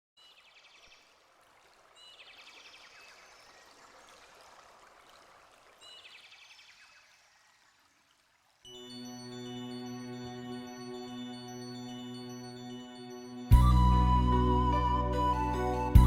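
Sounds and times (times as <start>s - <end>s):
stream running: 0.2s - 16.0s.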